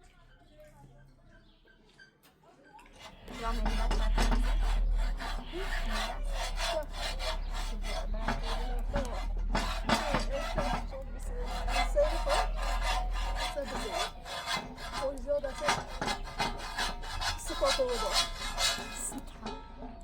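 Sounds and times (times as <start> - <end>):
irregular scraping strokes: 2.9 - 20.0.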